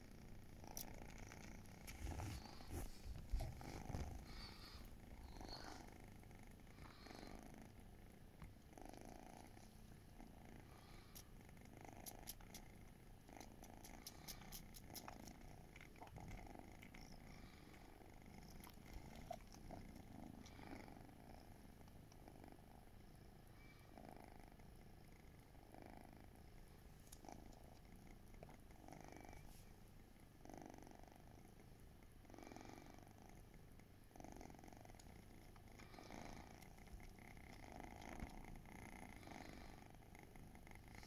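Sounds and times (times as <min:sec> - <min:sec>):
cats purring: 0:00.0 - 0:41.0.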